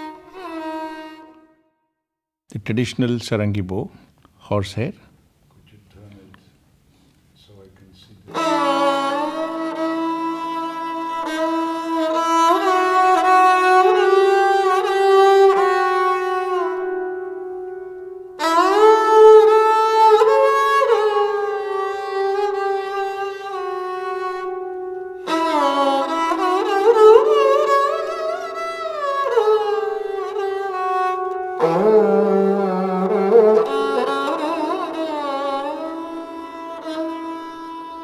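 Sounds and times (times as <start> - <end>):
bowed sarangi phrases: 0.0 - 1.7, 8.3 - 38.0.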